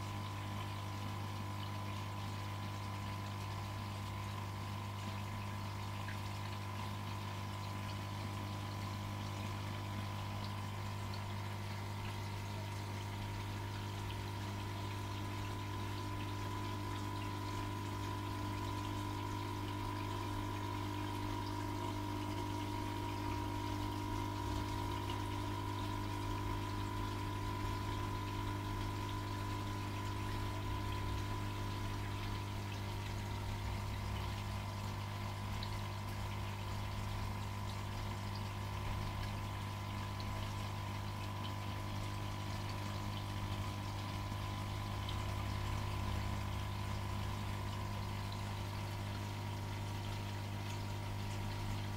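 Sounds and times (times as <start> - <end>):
aquarium filter pump humming: 0.0 - 51.9
moving water: 0.0 - 51.9.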